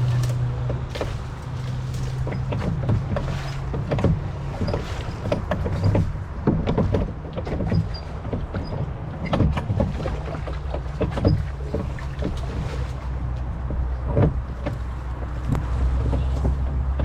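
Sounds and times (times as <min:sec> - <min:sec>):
low wind rumble: 0:00.0 - 0:17.0
water splashing around rowboat: 0:00.0 - 0:17.0.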